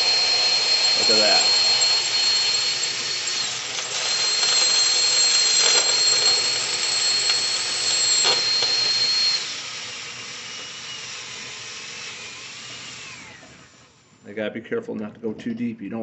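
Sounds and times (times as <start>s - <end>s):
power drill drilling into steel: 0.0s - 14.1s.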